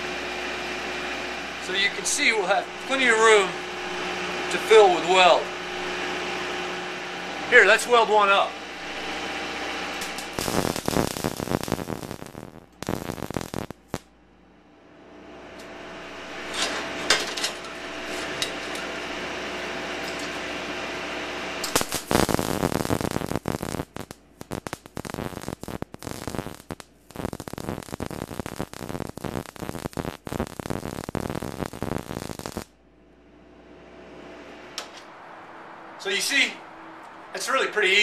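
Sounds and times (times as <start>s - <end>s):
welder arc crackling: 0.0s - 32.8s, 36.0s - 38.0s
steady hum: 0.0s - 38.0s.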